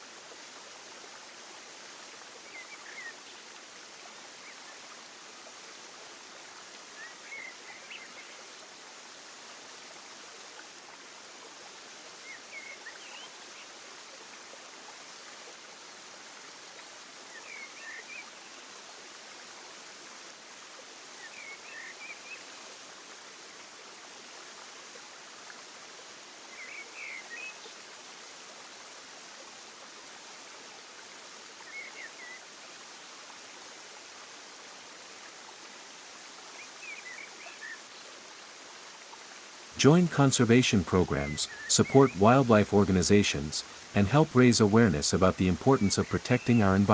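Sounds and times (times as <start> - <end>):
flowing water: 0.0 - 46.9.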